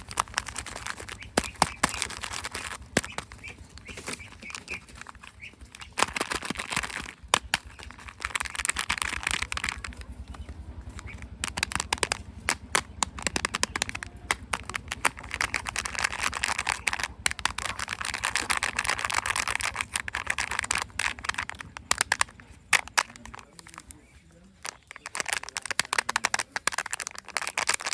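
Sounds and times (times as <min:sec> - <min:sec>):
plastic eggs clicking open: 0:00.0 - 0:27.9
plastic wrappers crinkling: 0:00.0 - 0:27.9.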